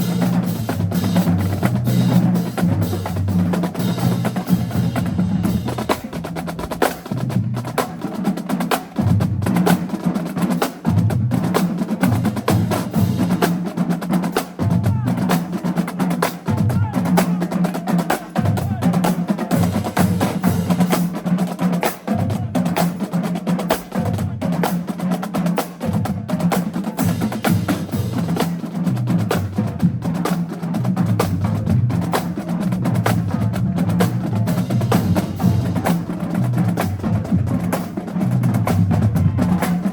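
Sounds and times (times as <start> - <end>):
low pitched drums: 0.0 - 39.9
snare drum rolls: 0.0 - 39.9.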